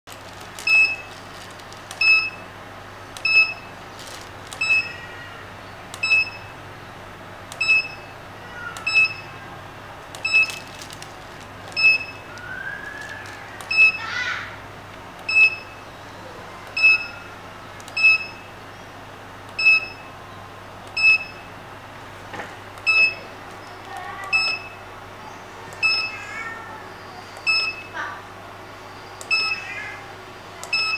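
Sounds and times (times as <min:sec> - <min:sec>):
low electrical hum: 0:00.1 - 0:30.9.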